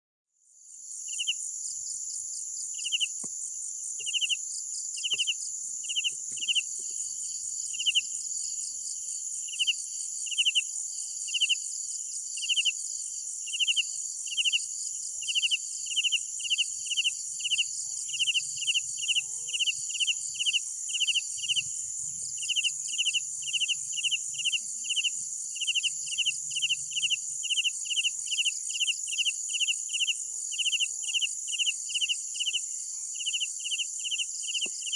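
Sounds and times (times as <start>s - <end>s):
lower cricket chirp: 0.4s - 34.9s
high-pitched cricket trill: 0.6s - 34.9s.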